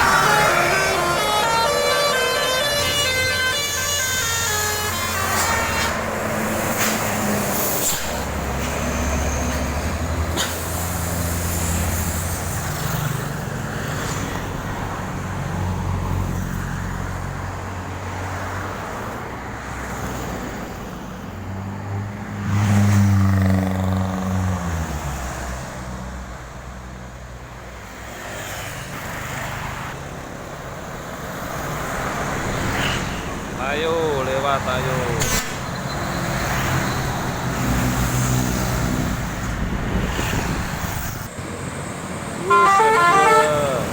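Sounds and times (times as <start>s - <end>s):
diesel buses and trucks passing: 0.0s - 43.9s
highway traffic: 0.0s - 43.9s.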